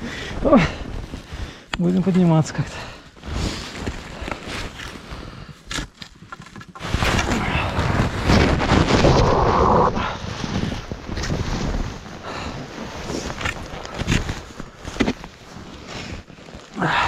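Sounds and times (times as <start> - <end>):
deep snow crunching: 0.2 - 6.2, 6.8 - 17.0
clothing and gear rustling: 0.3 - 9.2, 10.2 - 17.0.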